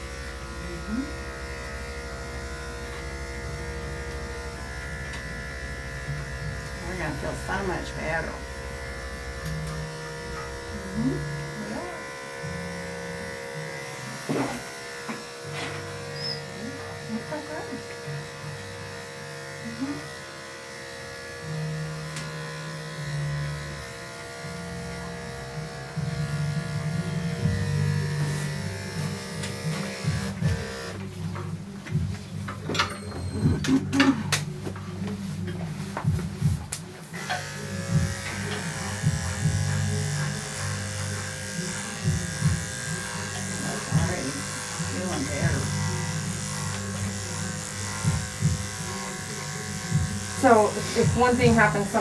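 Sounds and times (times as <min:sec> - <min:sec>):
electric clippers buzzing: 0:00.0 - 0:52.0.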